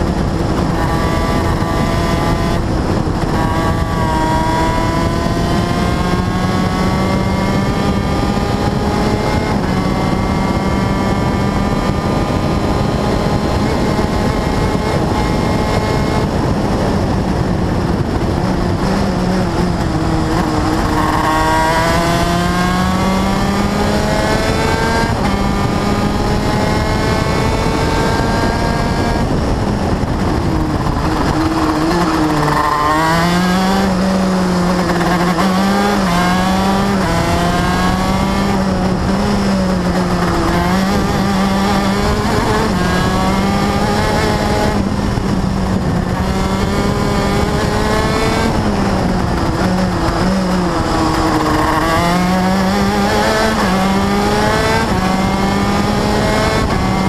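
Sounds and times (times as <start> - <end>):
race car engine under load: 0.0 - 57.0
road noise: 0.0 - 57.0
wind noise: 0.0 - 57.0.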